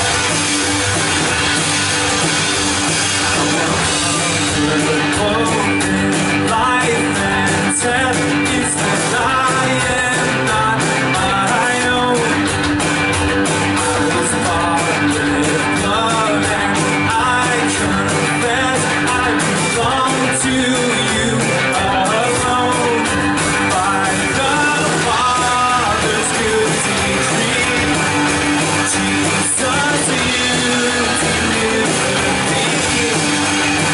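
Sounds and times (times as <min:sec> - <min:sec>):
guitar: 0:00.0 - 0:33.9
steady drum beat: 0:00.0 - 0:33.9
person singing: 0:03.3 - 0:12.8, 0:13.8 - 0:33.9.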